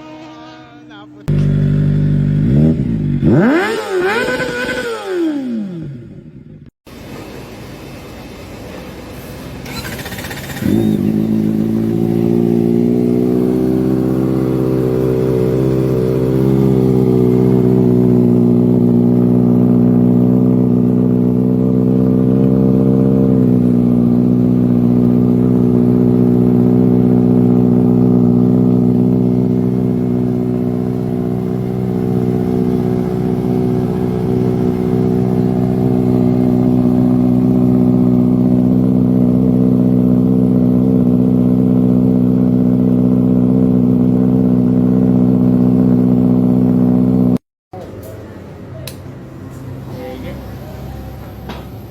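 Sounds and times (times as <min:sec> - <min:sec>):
motorcycle engine running: 0:01.2 - 0:06.7, 0:08.9 - 0:47.4.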